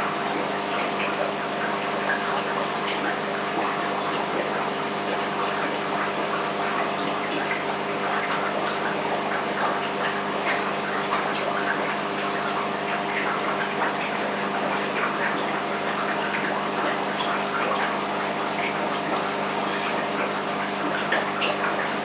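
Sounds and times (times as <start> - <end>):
aquarium water bubbling: 0.0 - 22.0
steady running hum: 0.0 - 22.0.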